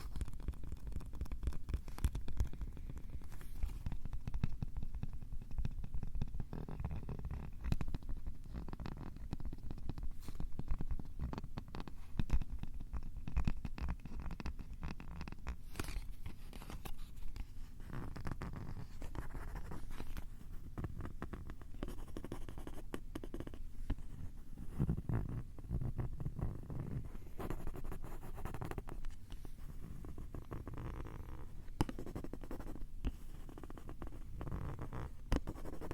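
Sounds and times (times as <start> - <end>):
fingers scratching on microphone: 0.0 - 35.9.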